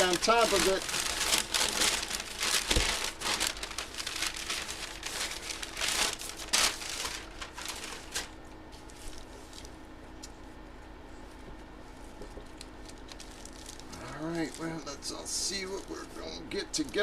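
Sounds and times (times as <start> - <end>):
paper and plastic bag crinkling: 0.0 - 9.8, 12.0 - 17.0.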